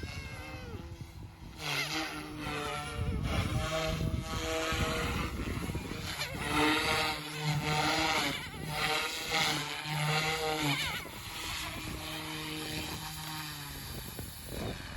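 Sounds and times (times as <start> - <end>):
rc helicopter rotor and motor hum: 0.0 - 14.9
wind buffeting microphone: 0.0 - 14.9.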